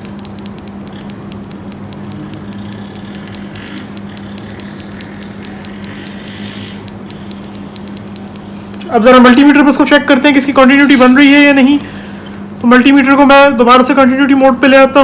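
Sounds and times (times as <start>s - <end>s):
low hum: 0.0s - 13.7s.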